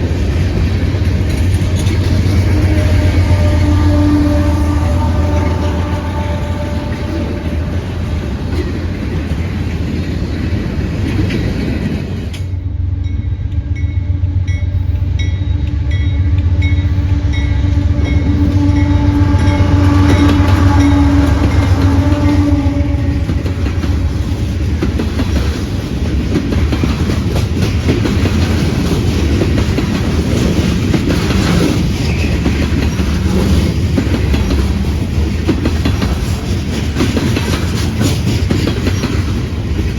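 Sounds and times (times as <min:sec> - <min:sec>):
wheels clicking over rail joints: 0:00.0 - 0:12.6, 0:18.4 - 0:39.9
locomotive drone: 0:00.0 - 0:39.9.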